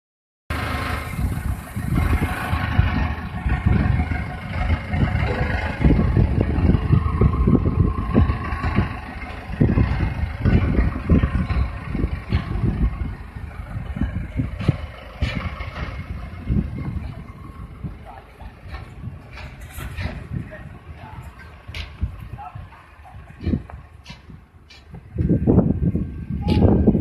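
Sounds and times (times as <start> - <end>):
baler machine running: 0.5 - 23.8
low thumps and knocks: 1.3 - 27.0.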